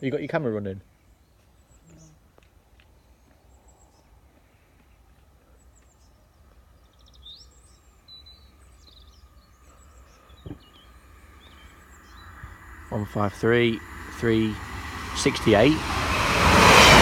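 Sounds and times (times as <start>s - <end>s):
small birds chirping: 0.0s - 16.3s.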